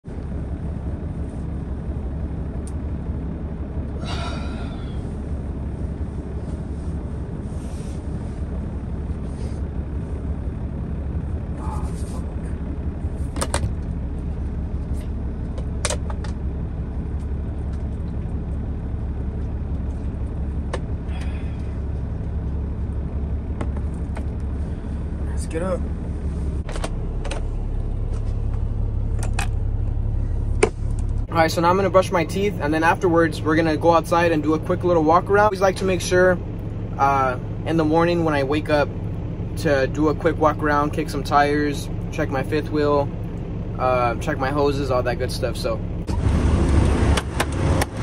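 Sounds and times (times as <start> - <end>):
diesel truck idling: 0.1 - 48.0.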